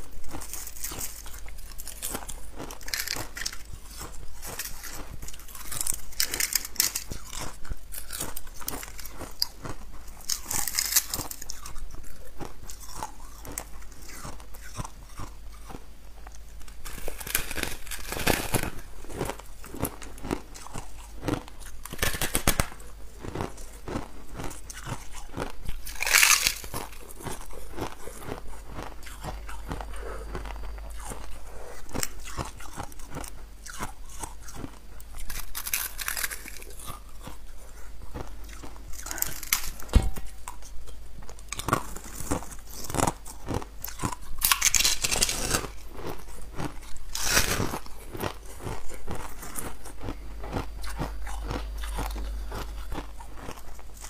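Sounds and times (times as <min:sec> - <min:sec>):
chewing crushed ice: 0:00.0 - 0:54.0.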